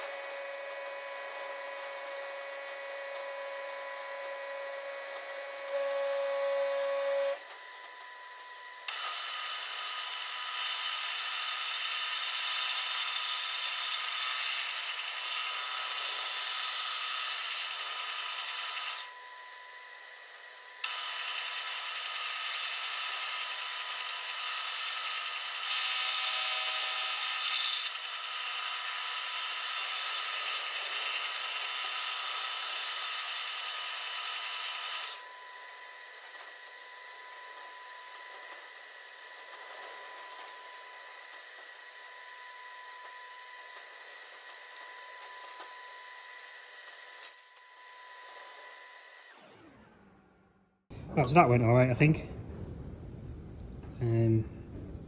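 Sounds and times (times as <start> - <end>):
cutter hissing through metal: 0.0 - 49.8
milling machine motor running: 0.0 - 50.3.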